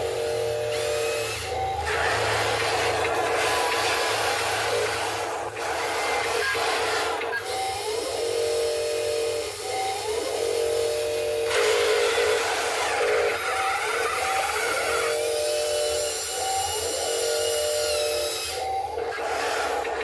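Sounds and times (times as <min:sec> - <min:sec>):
machine hum with whining tone: 0:00.0 - 0:20.0.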